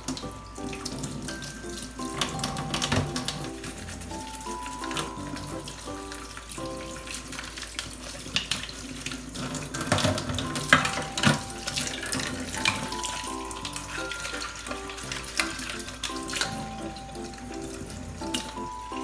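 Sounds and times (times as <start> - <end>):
soft background music: 0.0 - 19.0
tap water running into sink: 0.0 - 19.0.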